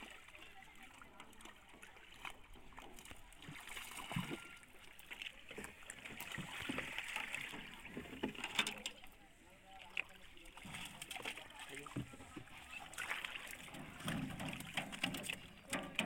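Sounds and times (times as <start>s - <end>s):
fish splashing in water: 0.0s - 8.2s, 9.9s - 16.0s.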